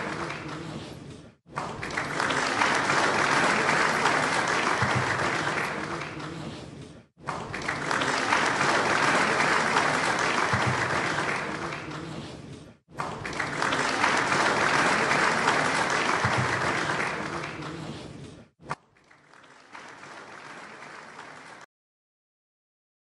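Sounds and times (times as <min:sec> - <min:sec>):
audience applause: 0:00.0 - 0:00.9, 0:01.5 - 0:06.6, 0:07.2 - 0:12.3, 0:12.9 - 0:18.1, 0:18.9 - 0:21.7.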